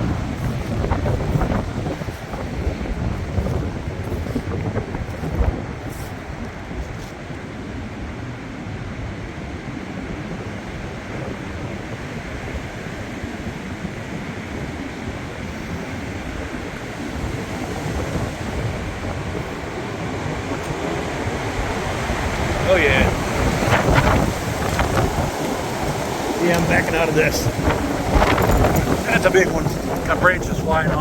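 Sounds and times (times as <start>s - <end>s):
storm wind blowing through trees: 0.0s - 31.0s
wind gusts on microphone: 0.0s - 31.0s.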